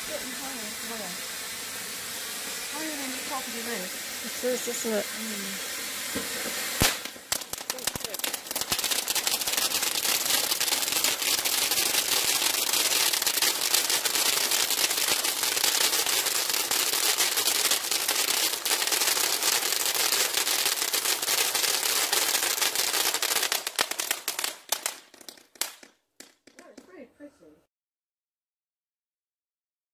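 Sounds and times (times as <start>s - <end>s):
firework fountain hissing and crackling: 0.0s - 27.1s.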